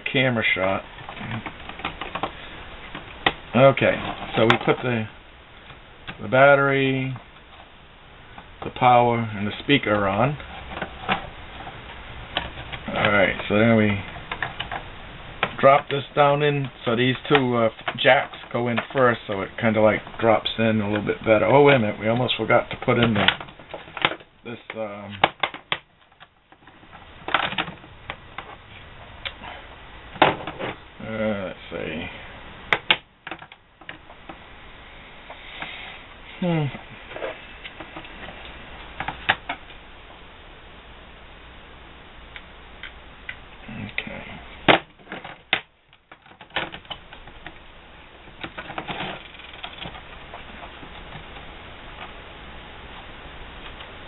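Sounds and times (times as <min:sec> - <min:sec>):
steady low hiss: 0:00.0 - 0:54.0.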